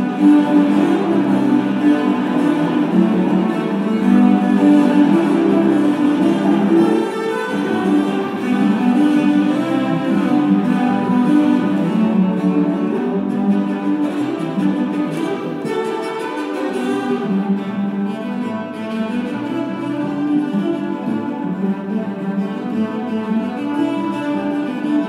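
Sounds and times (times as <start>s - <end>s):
cello ensemble playing: 0.0s - 25.0s.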